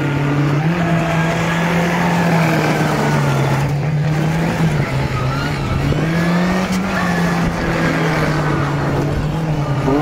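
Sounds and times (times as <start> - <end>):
engine revving high: 0.0 - 10.0.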